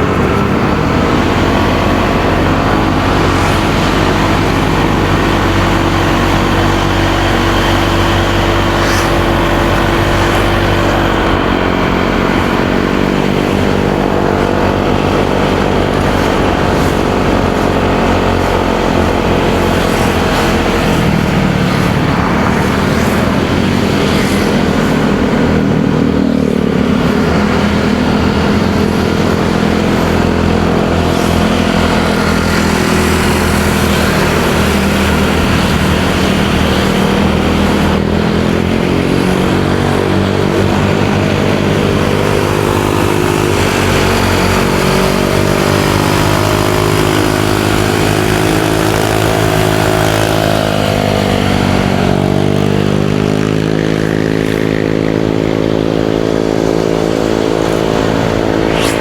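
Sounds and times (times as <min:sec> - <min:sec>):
motorcycle engine running: 0:00.0 - 0:59.0
road noise: 0:00.0 - 0:59.0
wind noise: 0:00.0 - 0:59.0.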